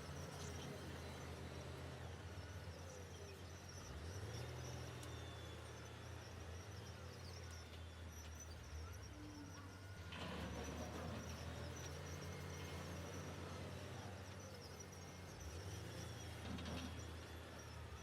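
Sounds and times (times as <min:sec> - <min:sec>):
heavy machinery diesel engines droning: 0:00.0 - 0:18.0.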